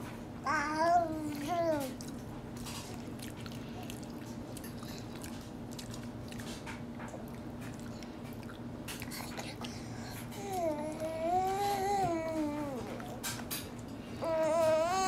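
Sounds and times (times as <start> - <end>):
steady low hum: 0.0 - 15.0
baby chewing with wet mouth clicks: 0.8 - 14.8.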